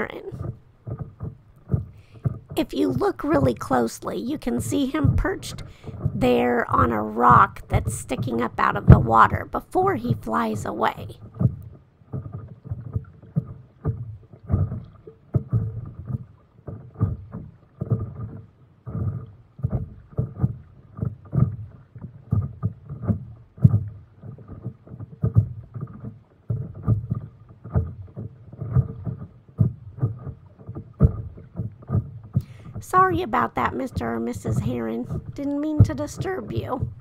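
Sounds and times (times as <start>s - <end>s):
water splashing against paddleboard: 0.0s - 37.0s.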